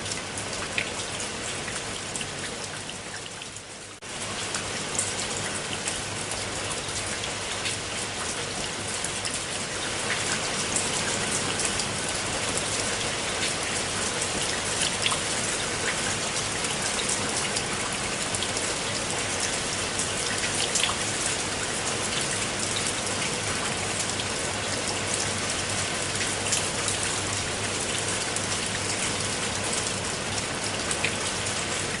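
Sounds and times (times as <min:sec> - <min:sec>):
rain falling on water: 0:00.0 - 0:32.0.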